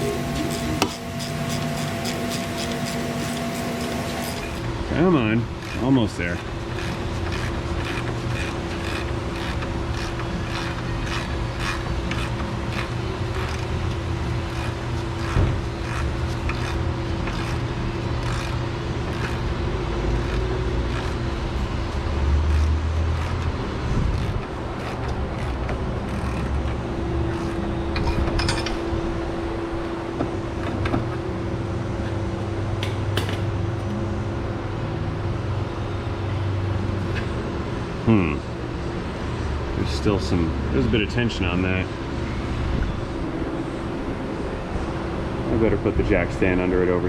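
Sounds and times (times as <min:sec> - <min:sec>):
steady mechanical hum: 0:00.0 - 0:47.0.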